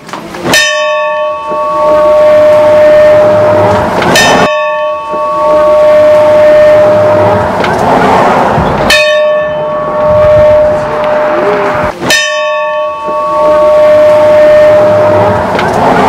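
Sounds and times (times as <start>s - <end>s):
church bell ringing: 0.4s - 16.0s.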